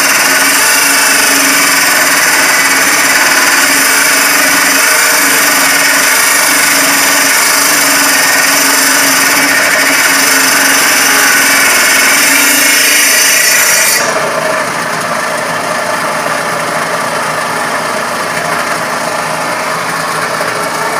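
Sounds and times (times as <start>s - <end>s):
saw motor running: 0.0s - 20.9s
table saw cutting wood: 0.0s - 20.9s.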